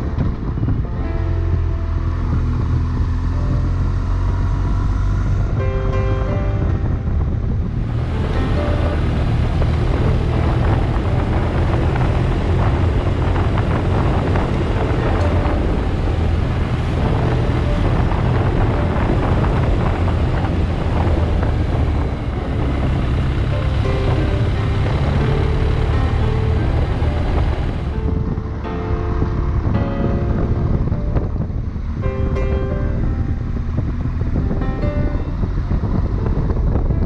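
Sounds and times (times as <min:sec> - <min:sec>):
motorcycle engine running: 0:00.0 - 0:37.0
wind on microphone: 0:00.0 - 0:37.0.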